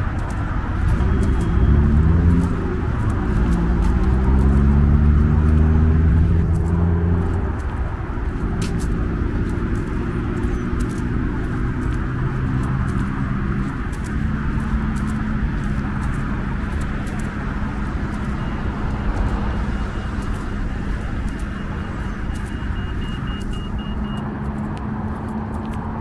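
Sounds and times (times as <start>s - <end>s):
passing traffic: 0.0s - 26.0s
vehicle engine droning: 0.0s - 26.0s.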